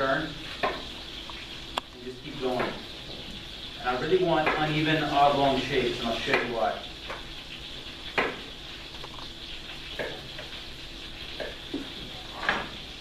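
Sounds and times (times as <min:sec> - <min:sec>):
chicken sizzling in a skillet: 0:00.0 - 0:13.0.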